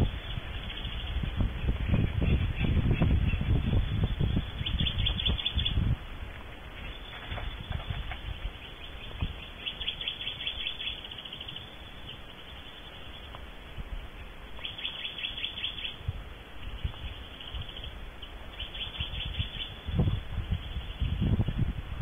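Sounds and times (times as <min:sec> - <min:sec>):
owls chittering: 0:00.0 - 0:05.9, 0:06.5 - 0:13.4, 0:14.0 - 0:16.0, 0:16.6 - 0:21.2.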